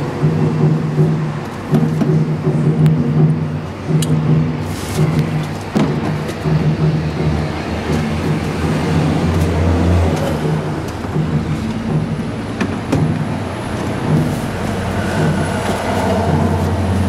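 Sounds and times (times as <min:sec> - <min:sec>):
car engine humming: 0:00.0 - 0:17.0
wheelchair frame knocking: 0:00.0 - 0:17.0.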